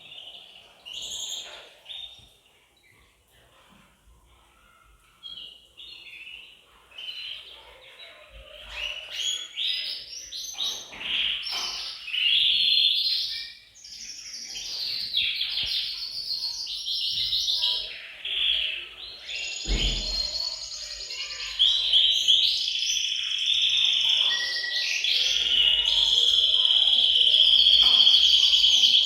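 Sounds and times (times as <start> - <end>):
canaries singing trills: 0.0 - 29.0.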